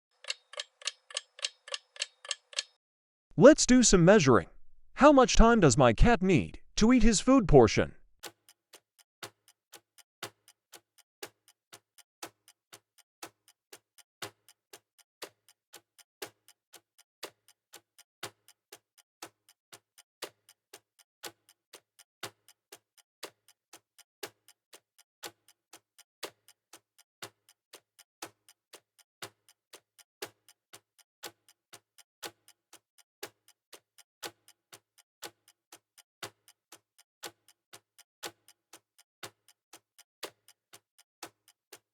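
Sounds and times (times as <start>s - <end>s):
clock ticking: 0.2s - 2.7s, 3.4s - 41.9s.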